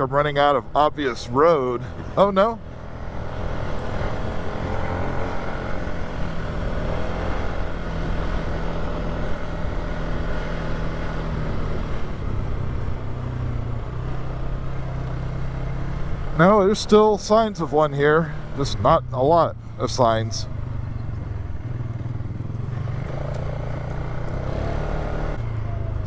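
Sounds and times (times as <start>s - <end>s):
quad bike engine running: 0.8s - 26.0s.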